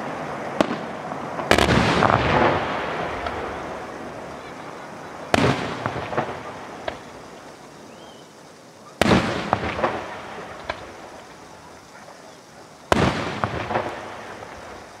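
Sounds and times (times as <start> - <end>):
smaller firework pops: 0.0 - 7.7, 8.9 - 15.0
firework bangs: 0.0 - 15.0.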